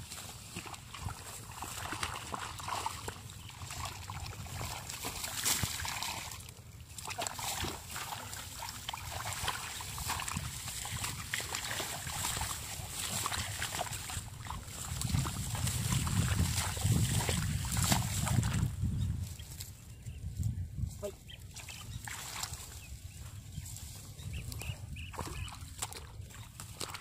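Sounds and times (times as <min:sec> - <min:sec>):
hands splashing in muddy water: 0:00.1 - 0:18.8, 0:21.8 - 0:22.8, 0:24.5 - 0:27.0.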